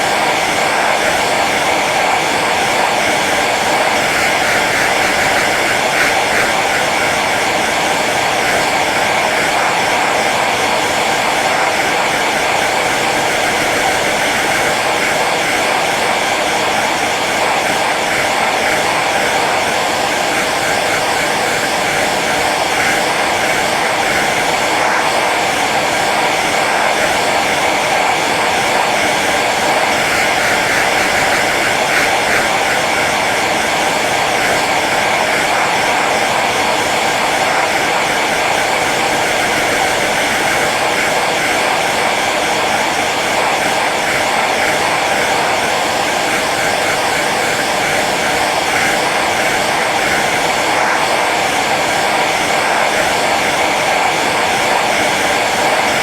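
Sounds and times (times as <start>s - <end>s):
hair dryer blowing air: 0.0s - 56.0s.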